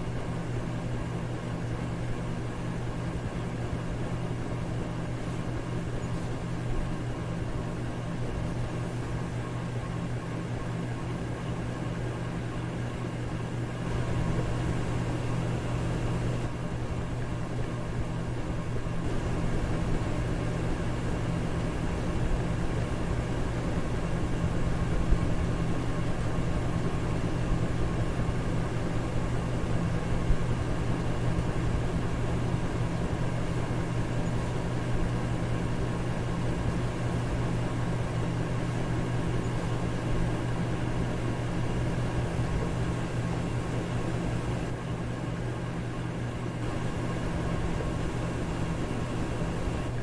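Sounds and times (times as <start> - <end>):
electric fan running: 0.0 - 50.0.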